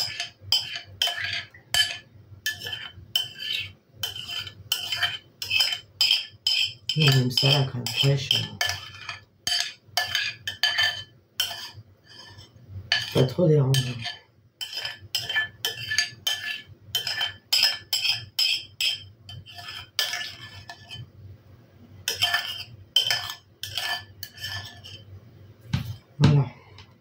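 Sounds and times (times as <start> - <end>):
spoon scraping ceramic bowl: 0.0 - 21.1, 22.0 - 25.1.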